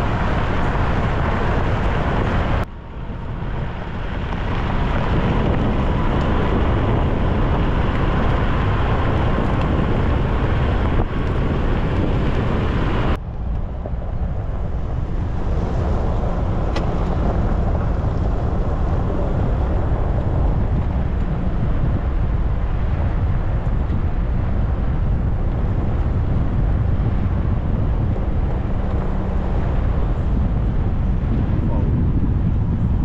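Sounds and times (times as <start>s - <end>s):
wind rumble on microphone: 0.0s - 33.0s.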